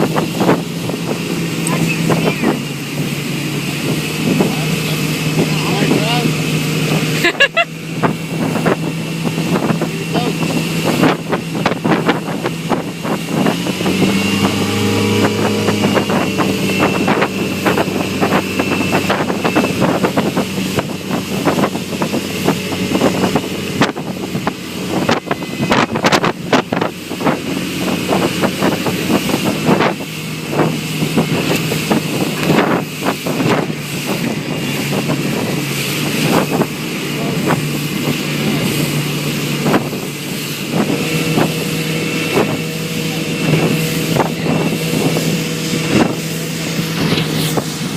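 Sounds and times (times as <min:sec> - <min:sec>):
motorboat engine running: 0:00.0 - 0:47.9
wind buffeting microphone: 0:00.0 - 0:47.9.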